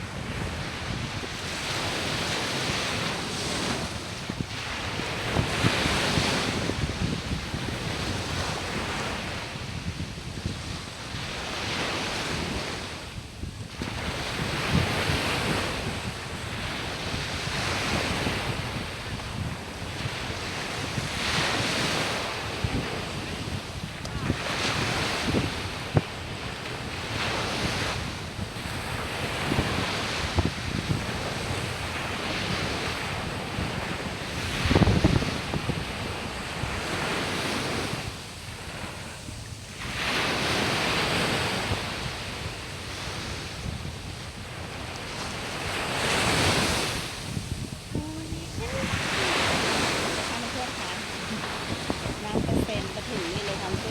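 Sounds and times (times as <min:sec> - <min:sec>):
sea waves washing onto beach: 0:00.0 - 0:53.9
wind buffeting microphone: 0:00.0 - 0:53.9.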